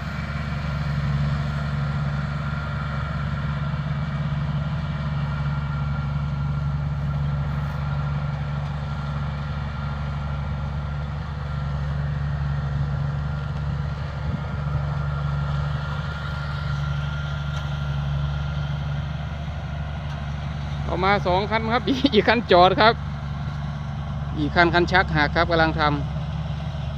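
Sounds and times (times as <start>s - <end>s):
combine harvester engine drone: 0.0s - 26.9s.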